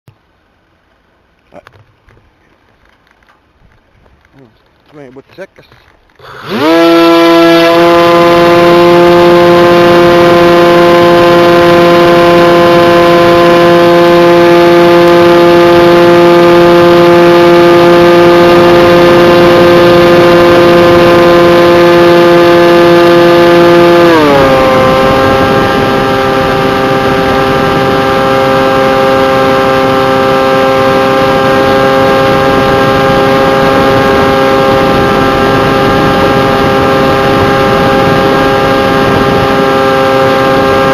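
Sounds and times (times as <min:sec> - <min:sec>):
electric plane motor whining: 0:06.2 - 0:40.9.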